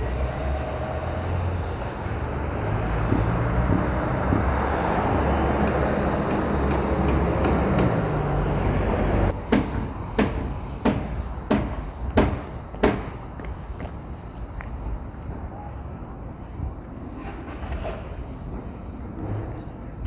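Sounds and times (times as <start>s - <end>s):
road traffic rumbling: 0.0s - 20.0s.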